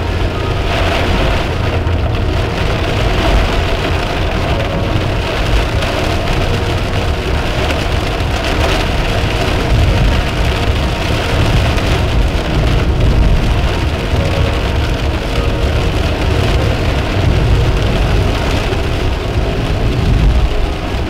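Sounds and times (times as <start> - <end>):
car driving rumble: 0.0 - 21.0
heavy rain drumming on car roof: 0.0 - 21.0.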